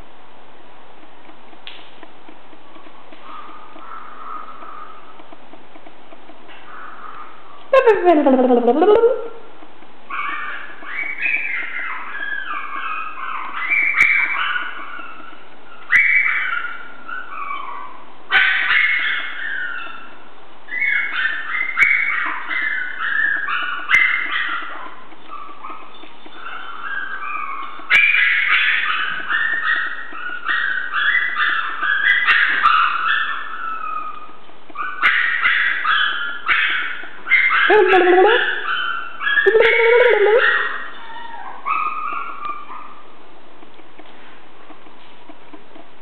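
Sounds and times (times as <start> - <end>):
puppies whining and yipping: 2.7 - 5.8, 6.5 - 46.0.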